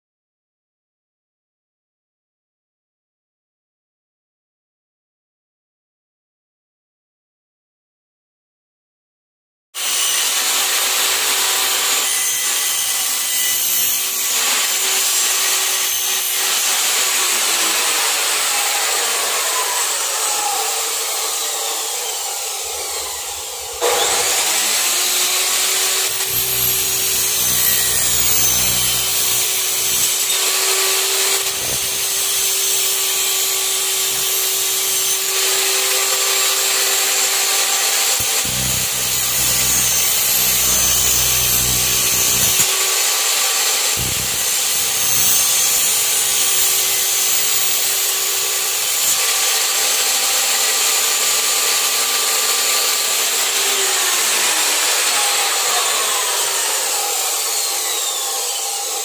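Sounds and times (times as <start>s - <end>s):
chop saw motor whine: 9.8s - 59.0s
saw blade cutting metal: 9.8s - 59.0s.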